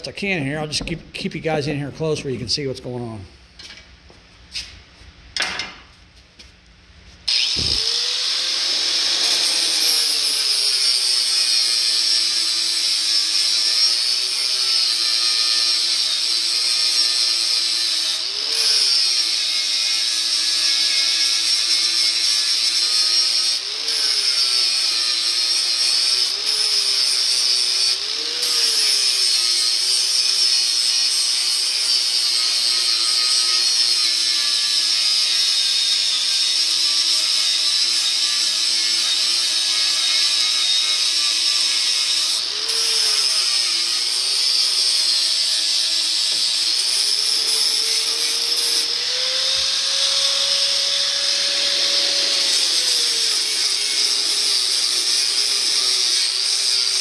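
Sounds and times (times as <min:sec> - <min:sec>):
angle grinder grinding metal: 0:07.3 - 0:57.0.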